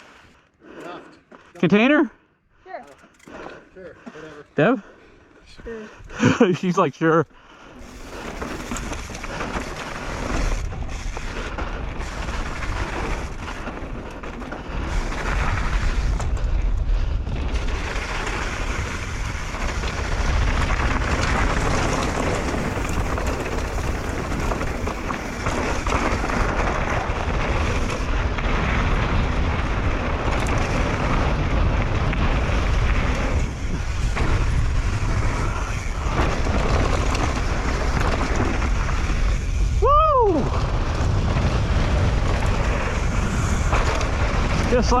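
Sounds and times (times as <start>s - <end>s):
bike tyre and trail noise: 0.0s - 45.0s
wind rushing over microphone: 8.3s - 45.0s.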